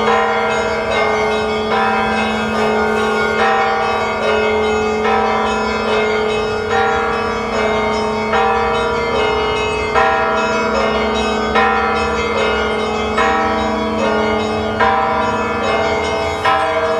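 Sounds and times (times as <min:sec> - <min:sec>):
small bells struck rhythmically: 0:00.0 - 0:16.9.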